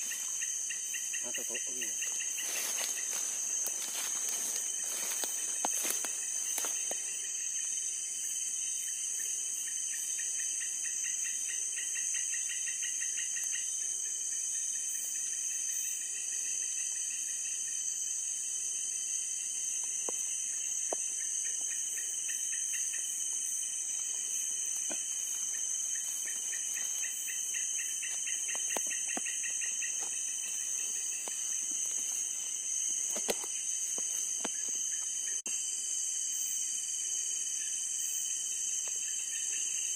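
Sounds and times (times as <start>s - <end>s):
crickets and night insects chirping: 0.0s - 39.9s
rapid pulsing insect trill: 0.0s - 39.9s.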